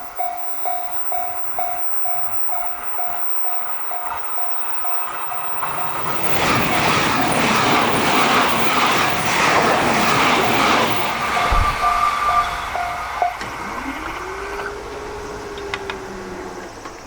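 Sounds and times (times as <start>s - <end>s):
railroad crossing bell dinging: 0.0s - 15.9s
train wheel clatter: 0.0s - 17.0s.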